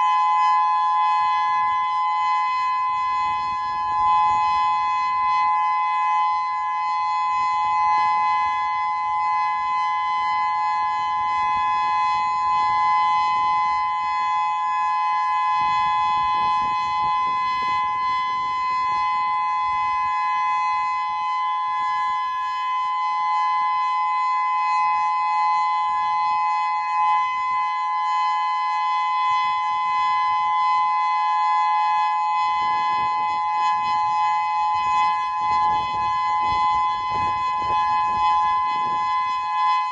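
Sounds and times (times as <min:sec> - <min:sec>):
steady electronic siren: 0:00.0 - 0:39.9.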